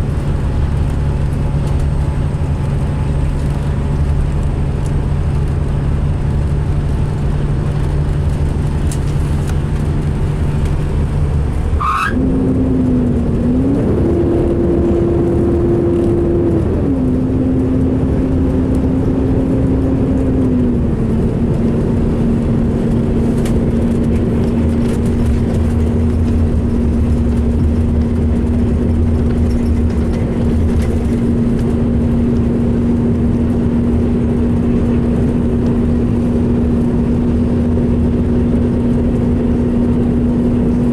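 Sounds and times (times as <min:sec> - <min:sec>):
bus engine and driveline whine: 0:00.0 - 0:40.9
road rumble: 0:00.0 - 0:40.9.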